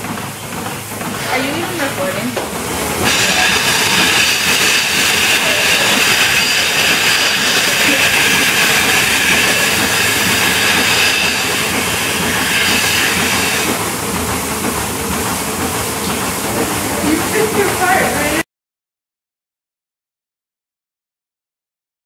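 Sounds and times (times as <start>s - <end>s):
milking machines hiss and rumble: 0.0s - 18.4s.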